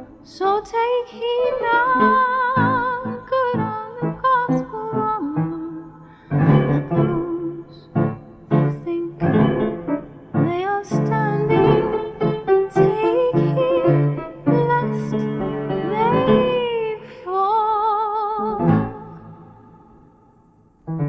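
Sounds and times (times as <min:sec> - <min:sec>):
woman singing: 0:00.0 - 0:19.6
piano: 0:00.0 - 0:21.0.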